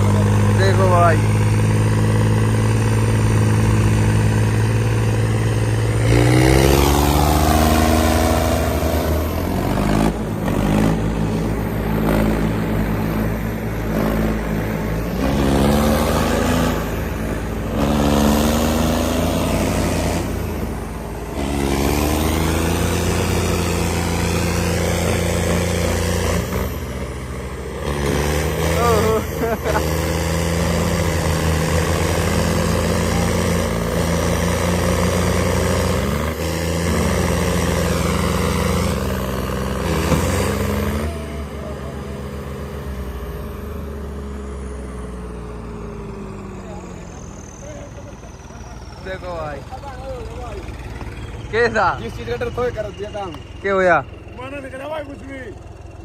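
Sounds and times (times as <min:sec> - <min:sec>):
diesel tractor engines revving: 0:00.0 - 0:56.0.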